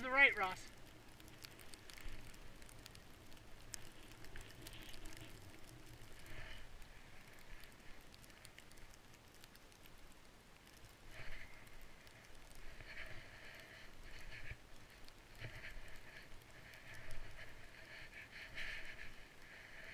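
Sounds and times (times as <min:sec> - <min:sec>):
small clicks: 0:00.0 - 0:19.9.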